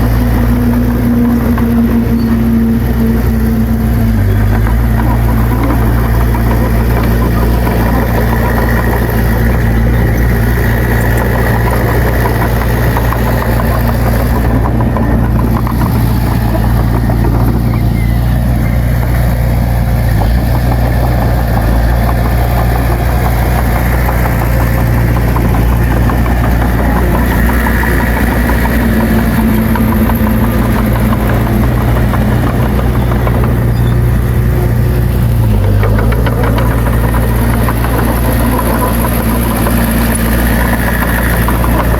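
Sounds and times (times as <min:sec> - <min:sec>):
heavy diesel engine humming: 0:00.0 - 0:41.9.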